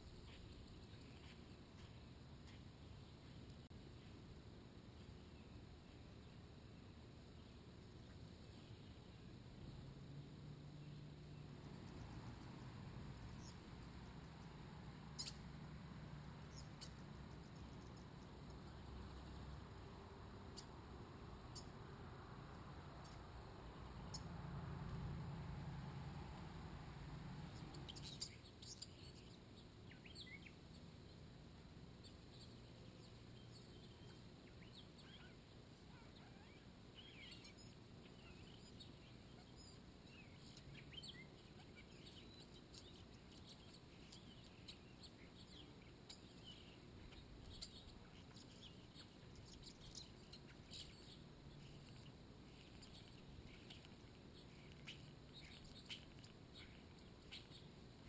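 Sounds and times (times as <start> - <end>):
bird chirps and tweets: 0.0 - 3.5, 5.0 - 21.9, 22.8 - 58.0
quiet outdoor background noise: 0.0 - 58.0.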